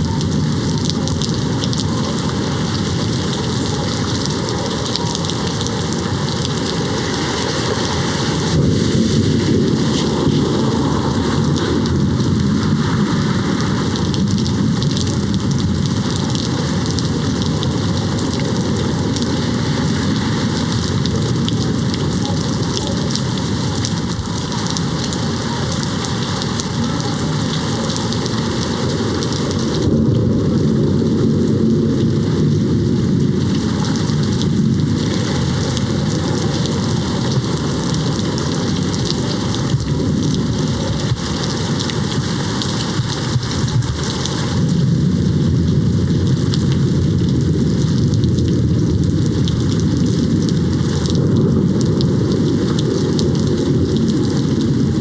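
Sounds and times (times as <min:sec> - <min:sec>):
heavy rain on a window: 0:00.0 - 0:55.0
thunder rumbling: 0:00.0 - 0:55.0.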